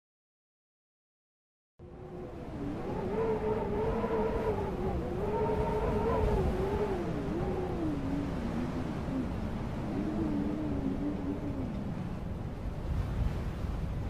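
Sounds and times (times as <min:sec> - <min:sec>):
strong wind howling: 0:01.8 - 0:14.0.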